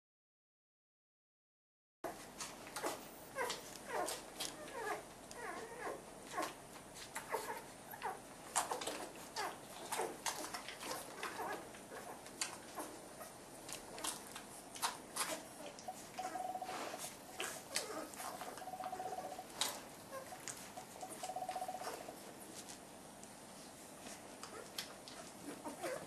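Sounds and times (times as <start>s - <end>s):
puppies squeaking and whimpering: 2.8s - 22.2s, 24.4s - 26.0s.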